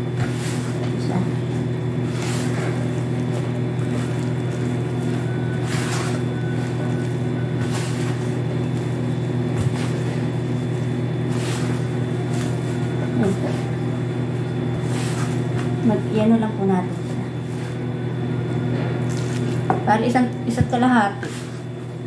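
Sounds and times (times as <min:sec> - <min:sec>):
hands working dough in bowl: 0:00.0 - 0:22.0
low machine hum: 0:00.0 - 0:22.0.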